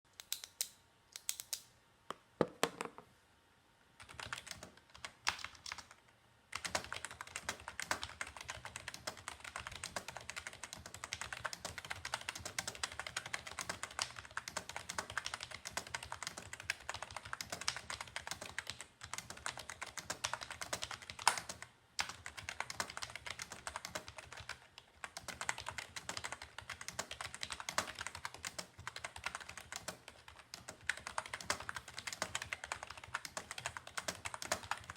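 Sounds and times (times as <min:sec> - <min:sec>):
typing on keyboard: 0:04.0 - 0:34.9.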